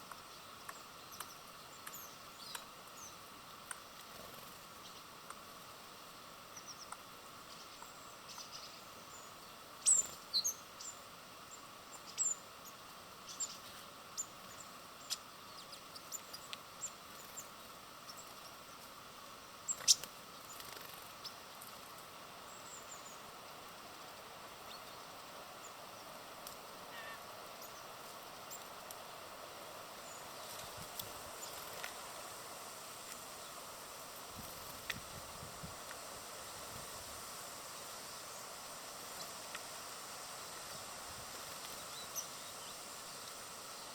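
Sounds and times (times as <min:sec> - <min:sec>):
small birds chirping: 0:00.0 - 0:36.1, 0:37.6 - 0:43.9
faint outdoor background hiss: 0:00.0 - 0:43.9.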